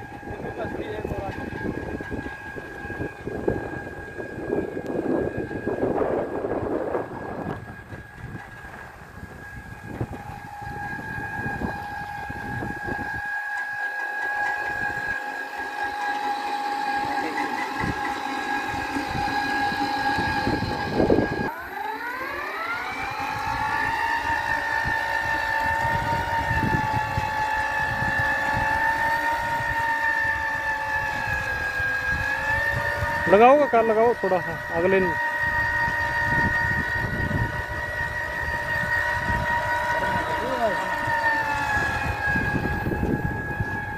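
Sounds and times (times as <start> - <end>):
electric tiller motor whining: 0.0 - 43.9.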